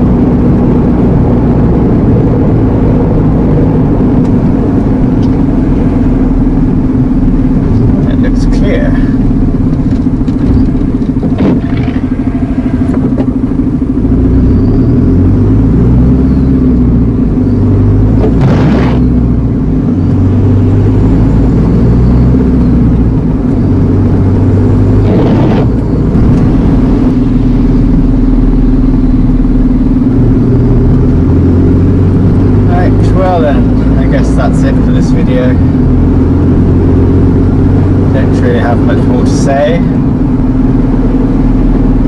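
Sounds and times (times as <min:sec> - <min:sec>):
lorry diesel engine droning: 0:00.0 - 0:42.0.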